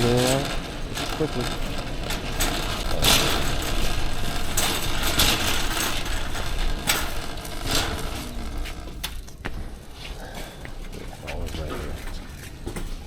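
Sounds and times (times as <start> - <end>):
continuous rattling and clattering: 0.0 - 13.0.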